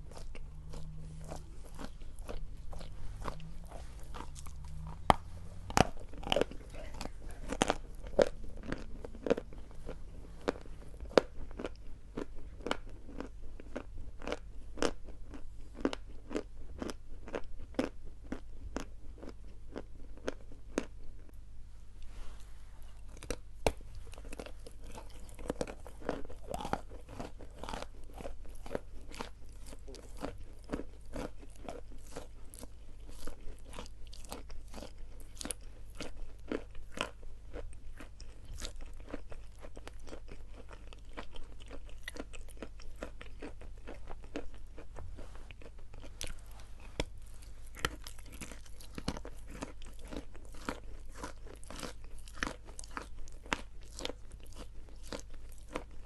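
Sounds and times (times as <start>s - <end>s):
chalk crunching and chewing: 0.0s - 21.3s, 22.8s - 56.0s
steady low hum: 0.0s - 51.4s.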